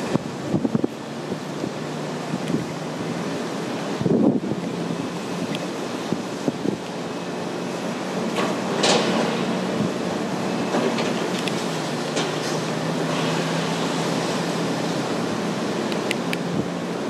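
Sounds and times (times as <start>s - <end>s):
excavator engine hum: 0.0s - 17.0s.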